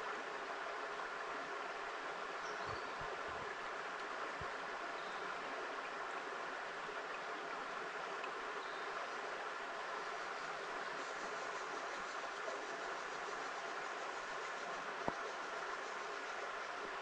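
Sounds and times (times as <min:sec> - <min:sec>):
creek flowing over rocks: 0:00.0 - 0:17.0.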